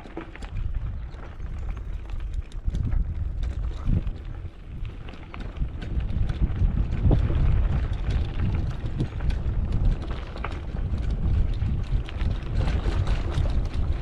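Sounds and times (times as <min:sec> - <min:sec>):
bike tyres clicking and rattling: 0:00.0 - 0:14.0
wind rumbling on microphone: 0:00.0 - 0:14.0.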